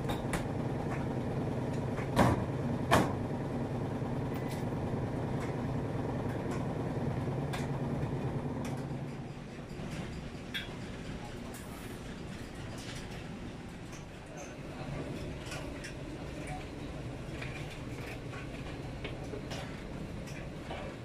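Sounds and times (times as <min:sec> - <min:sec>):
laundry machines humming: 0:00.0 - 0:21.0.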